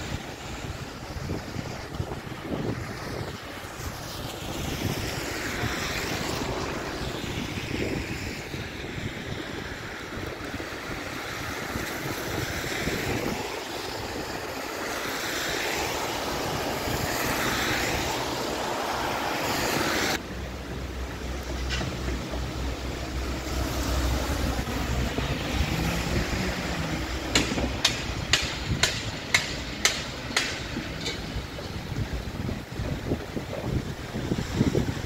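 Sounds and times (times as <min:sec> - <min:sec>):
wind buffeting microphone: 0:00.0 - 0:20.2, 0:21.1 - 0:35.0
rushing hiss of wind: 0:00.0 - 0:35.0
traffic on wet road: 0:00.0 - 0:35.0.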